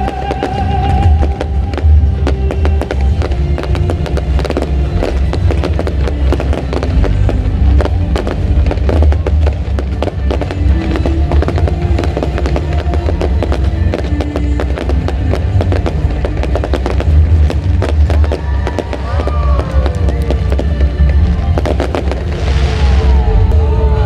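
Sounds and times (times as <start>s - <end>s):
fireworks bangs and crackles: 0.0s - 23.7s
music with heavy bass: 0.0s - 24.0s.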